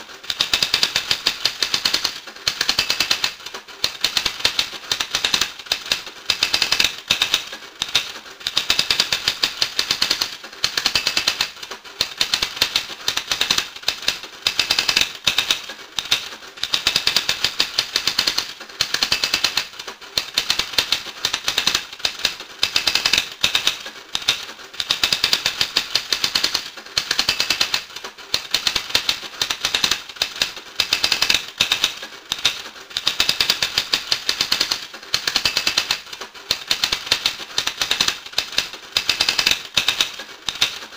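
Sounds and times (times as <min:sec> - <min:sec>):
fast dense clicking: 0:00.2 - 0:40.9.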